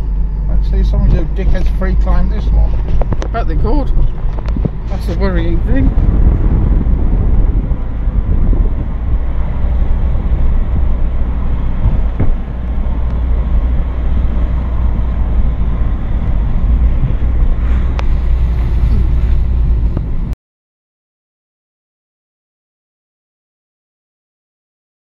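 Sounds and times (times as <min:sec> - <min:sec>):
car engine and road noise: 0:00.0 - 0:20.4.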